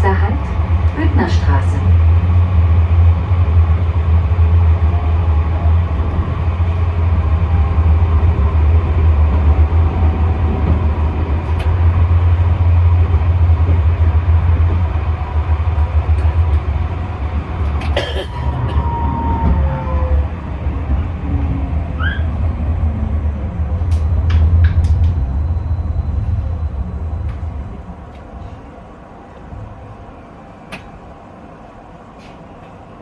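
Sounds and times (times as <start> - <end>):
tram wheels rumbling: 0.0 - 33.0.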